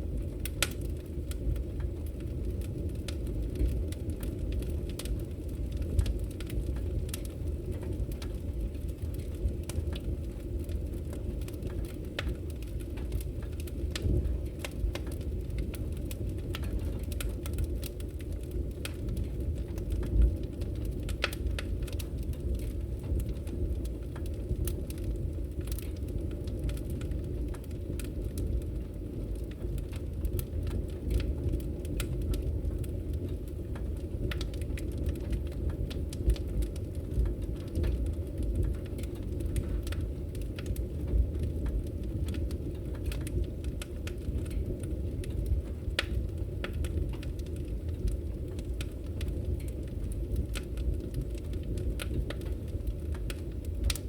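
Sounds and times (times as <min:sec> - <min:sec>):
burning logs crackling: 0:00.0 - 0:54.0
low rumble of flames: 0:00.0 - 0:54.0.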